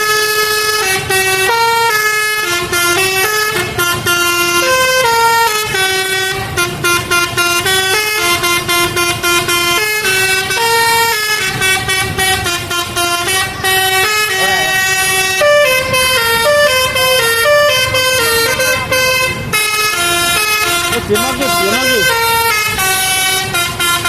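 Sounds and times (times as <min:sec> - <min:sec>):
electric air horn melody: 0:00.0 - 0:24.0.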